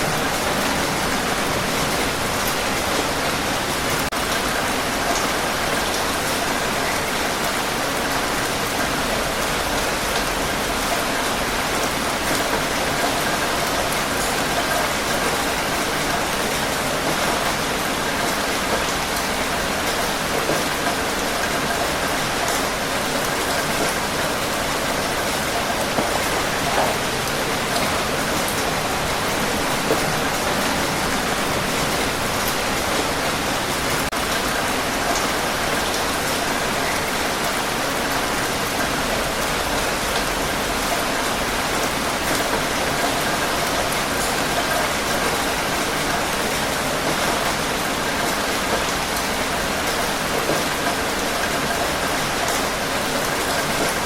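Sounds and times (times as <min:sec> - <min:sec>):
heavy rainfall hiss: 0:00.0 - 0:54.0
raindrops pattering on surfaces: 0:00.0 - 0:54.0.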